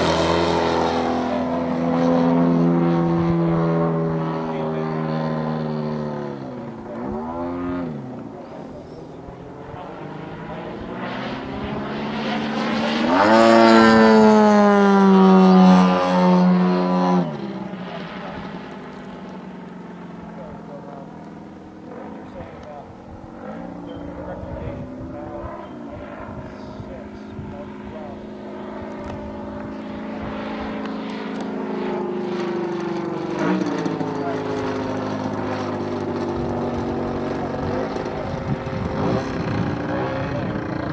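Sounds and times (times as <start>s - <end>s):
model airplane engine and propeller: 0.0s - 40.9s.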